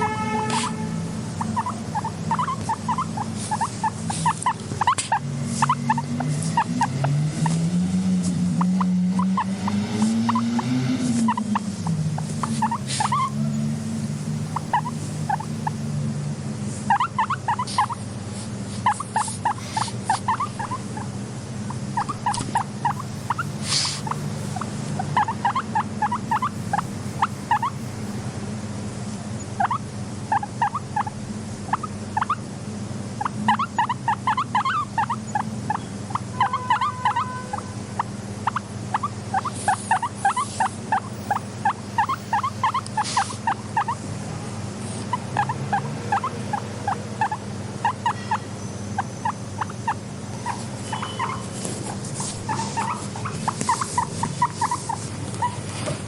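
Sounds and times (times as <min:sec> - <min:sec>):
guinea pig squeaking: 0:00.0 - 0:15.9, 0:16.8 - 0:28.2, 0:29.4 - 0:32.5, 0:33.2 - 0:44.1, 0:44.7 - 0:56.0
steady low hum: 0:00.0 - 0:56.0.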